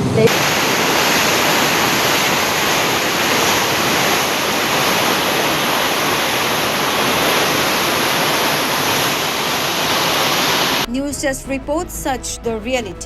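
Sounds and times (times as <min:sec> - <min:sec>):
loud rush of water: 0:00.0 - 0:10.9.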